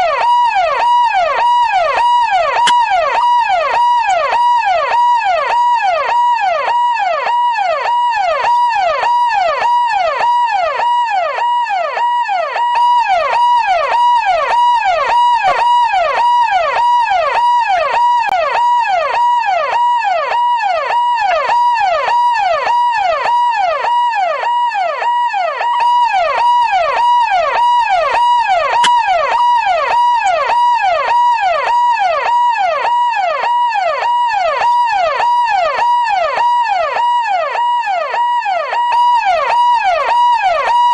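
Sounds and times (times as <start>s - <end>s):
police siren yelping: 0.0s - 40.9s.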